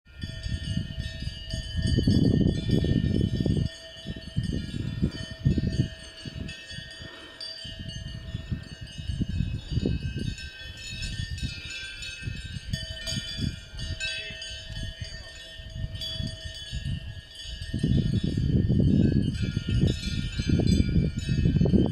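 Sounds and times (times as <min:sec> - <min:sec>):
cowbells ringing and clanking: 0:00.1 - 0:21.9.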